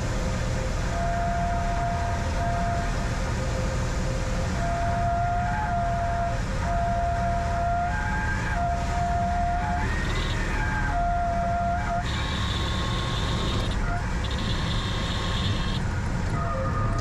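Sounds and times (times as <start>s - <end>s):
light aircraft engine and propeller: 0.0s - 17.0s
stall warning horn: 0.0s - 17.0s.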